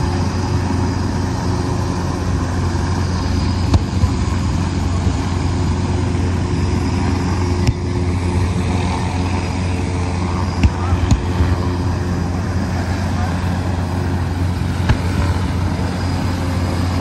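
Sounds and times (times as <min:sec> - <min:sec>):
helicopters droning: 0:00.0 - 0:17.0.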